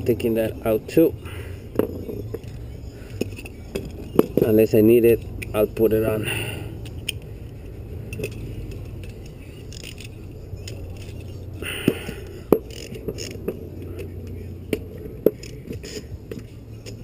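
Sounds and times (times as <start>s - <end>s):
steady low hum: 0.0s - 17.0s
metal tools clinking: 1.8s - 17.0s.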